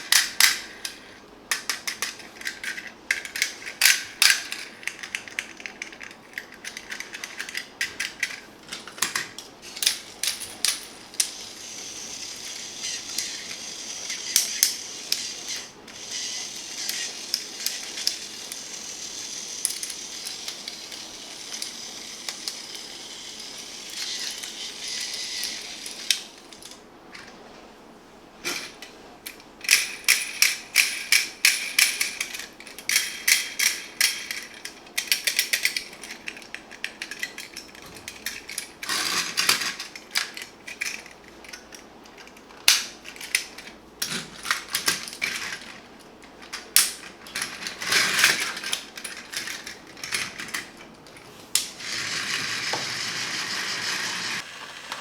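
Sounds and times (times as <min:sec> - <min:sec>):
toys clicking and rattling: 0:00.0 - 0:27.3, 0:28.4 - 0:55.0
steady whirring hiss: 0:00.0 - 0:55.0.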